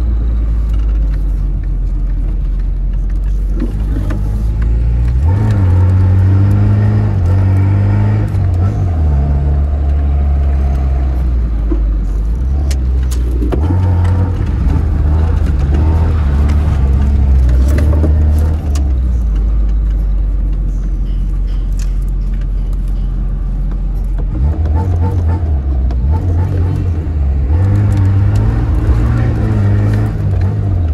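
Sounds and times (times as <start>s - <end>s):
car engine running: 0.0s - 30.9s
exhaust cracks: 0.0s - 30.9s.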